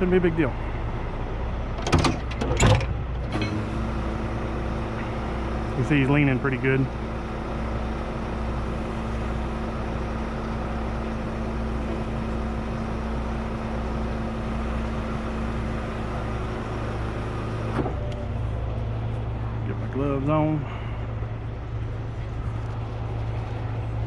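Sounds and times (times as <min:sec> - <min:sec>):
diesel truck engine idling: 0:00.0 - 0:24.0.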